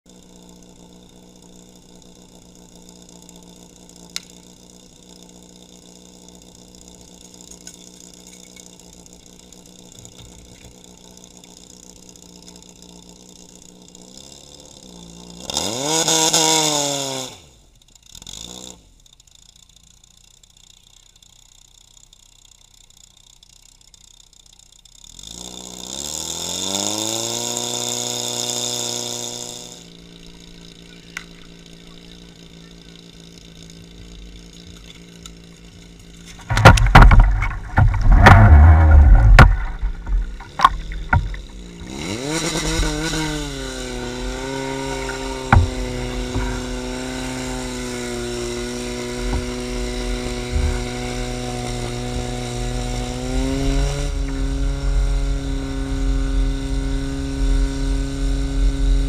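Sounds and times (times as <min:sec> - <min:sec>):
pump engine idling and revving: 0:00.0 - 0:59.0.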